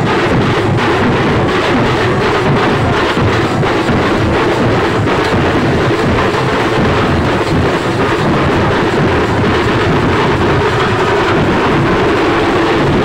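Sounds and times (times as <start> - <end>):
marching drum band: 0.0 - 13.0.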